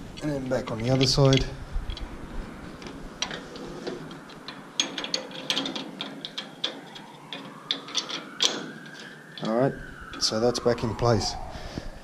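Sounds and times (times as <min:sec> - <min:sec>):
door lock parts clicking: 0:00.2 - 0:10.3.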